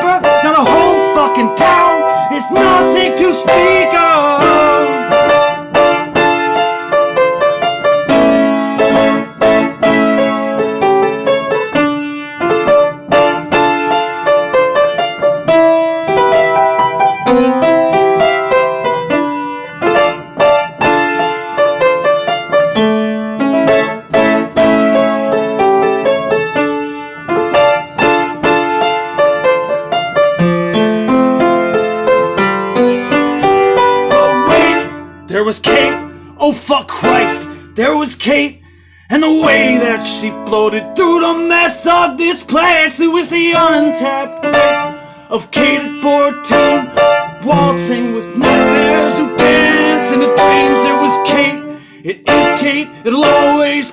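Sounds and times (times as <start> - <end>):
solo piano: 0.0 - 53.9.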